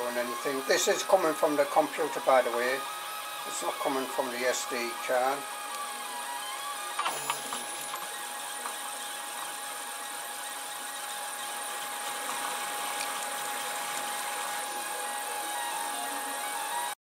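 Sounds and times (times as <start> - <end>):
steady hiss: 0.0 - 16.7.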